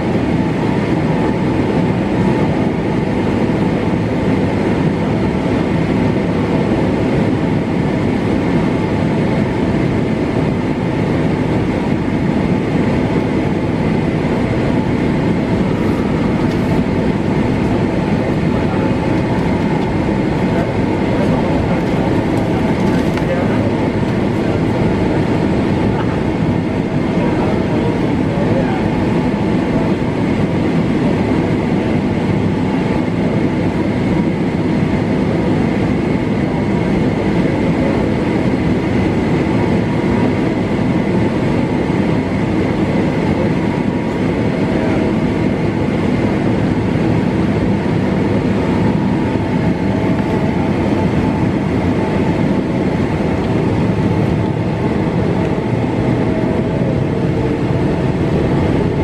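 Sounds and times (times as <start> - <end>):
jet engines idling with whine: 0.0 - 59.0
low rumble of rolling aircraft: 0.0 - 59.0.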